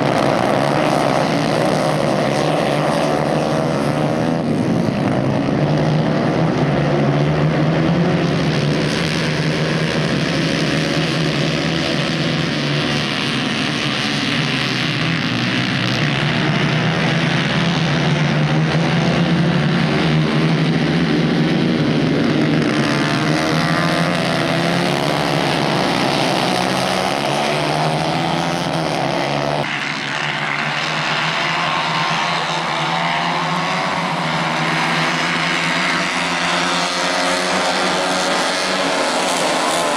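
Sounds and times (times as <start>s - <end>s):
racing kart engines: 0.0s - 39.9s.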